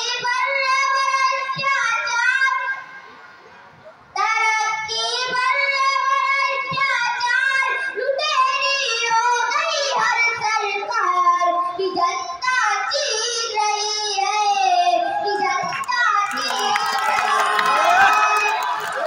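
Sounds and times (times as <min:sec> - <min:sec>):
boy singing unaccompanied: 0:00.0 - 0:02.7, 0:04.1 - 0:18.6.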